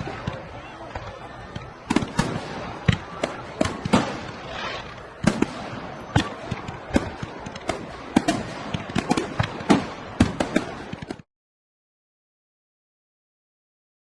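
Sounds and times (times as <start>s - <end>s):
fireworks banging and crackling: 0.0s - 11.3s.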